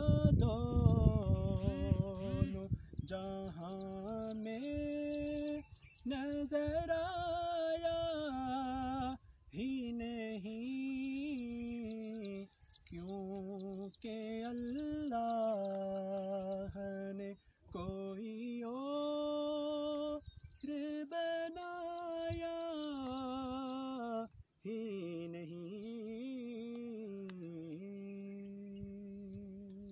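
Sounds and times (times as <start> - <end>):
man singing unaccompanied: 0.0 - 29.9.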